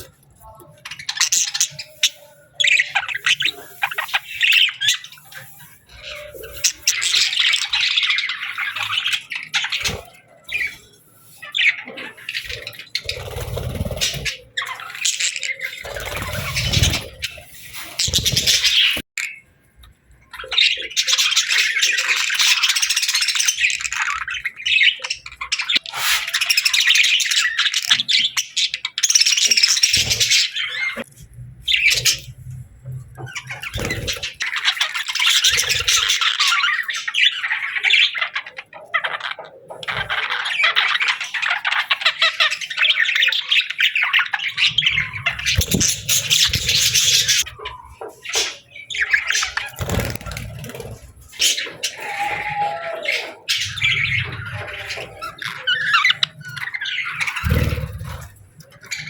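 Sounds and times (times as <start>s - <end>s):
budgerigars chirping and squawking: 0.0s - 59.0s.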